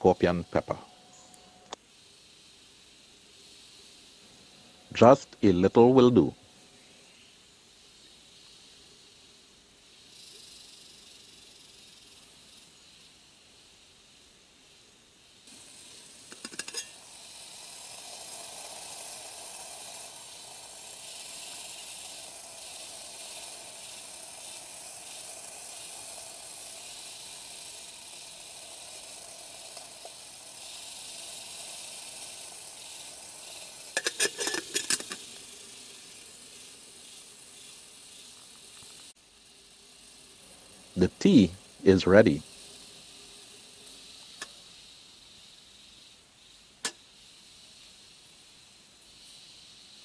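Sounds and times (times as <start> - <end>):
kettle hissing on stove: 0.0 - 50.0.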